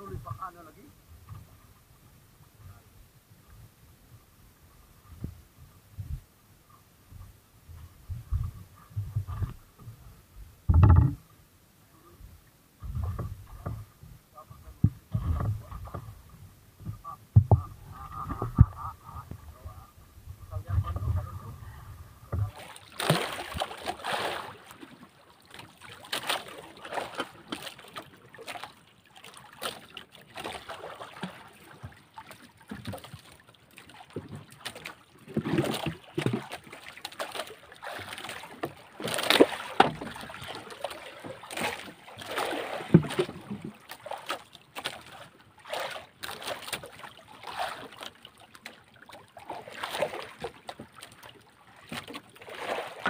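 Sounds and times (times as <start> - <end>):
water sloshing against wooden hull: 4.6 - 53.0.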